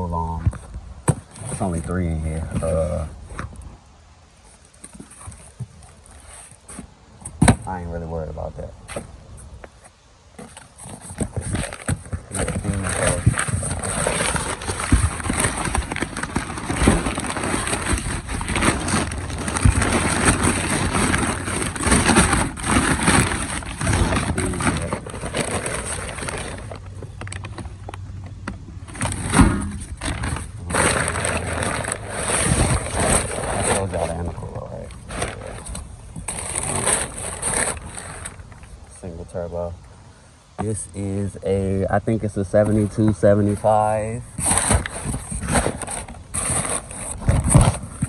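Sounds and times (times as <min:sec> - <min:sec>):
packing paper rustling and crinkling: 0:00.0 - 0:03.6, 0:10.4 - 0:39.7, 0:40.6 - 0:48.0.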